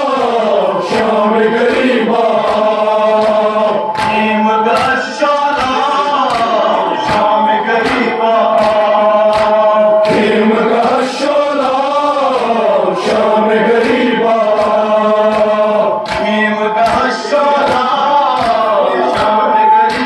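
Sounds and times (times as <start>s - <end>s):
men chanting in unison: 0.0s - 20.0s
steady beat of sharp strikes: 0.0s - 20.0s.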